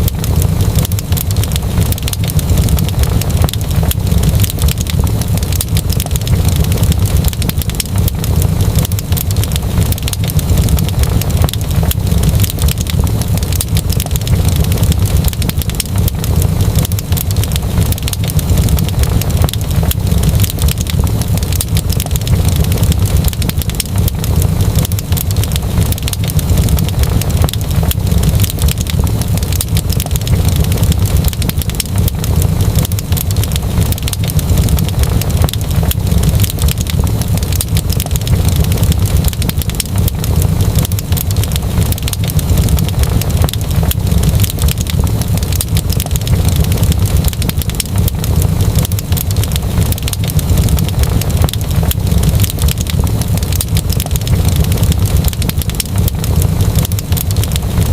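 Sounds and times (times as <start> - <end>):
fire crackling and popping: 0.0 - 57.9
low rumble of flames: 0.0 - 57.9.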